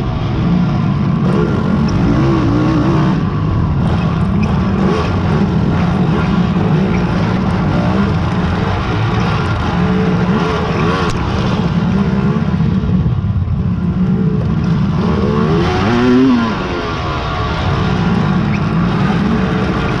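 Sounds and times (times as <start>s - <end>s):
quad engines revving: 0.0s - 20.0s.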